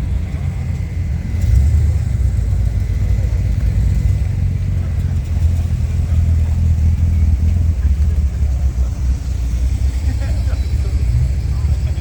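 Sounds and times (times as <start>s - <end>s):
car engine running low revs: 0.0s - 12.0s.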